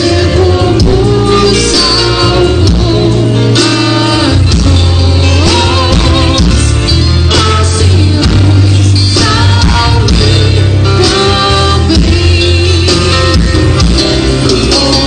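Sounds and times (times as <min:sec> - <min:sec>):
song with singing: 0:00.0 - 0:15.0
strong bass line: 0:00.0 - 0:15.0.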